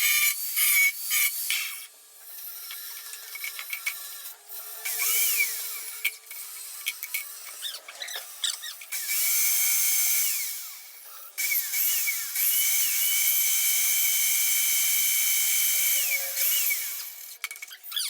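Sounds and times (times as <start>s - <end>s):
electric power tool whining: 0.0s - 18.0s.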